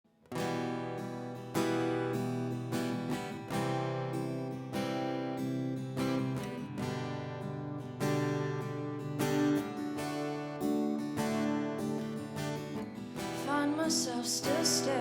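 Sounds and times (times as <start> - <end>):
acoustic guitar strumming chords: 0.2 - 15.0.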